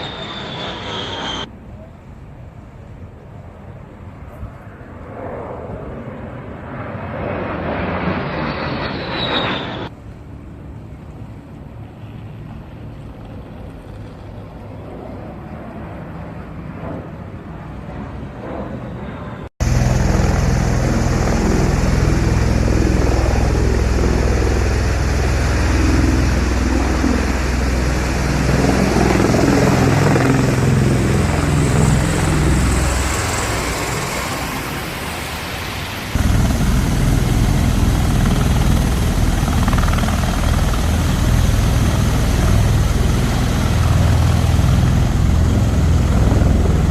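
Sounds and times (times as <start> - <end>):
aircraft rotor and engine noise: 0.0 - 46.9.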